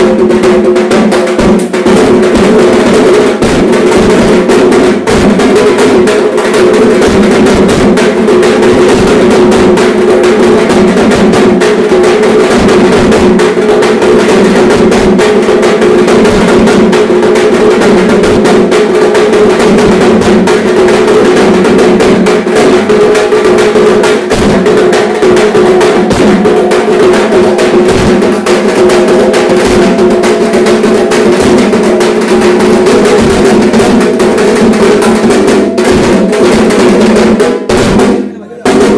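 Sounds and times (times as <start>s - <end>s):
drums beaten with sticks: 0.0s - 38.9s.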